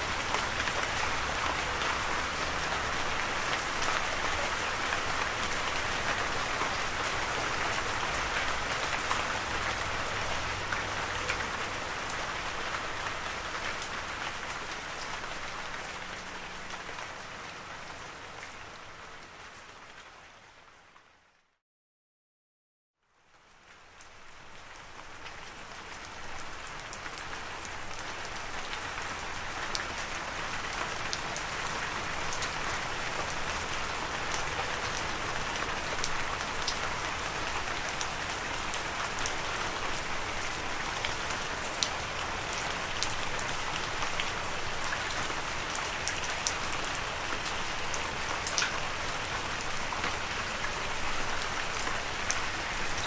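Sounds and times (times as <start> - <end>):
steady rain with ticking drops: 0.0 - 21.5, 23.0 - 53.0.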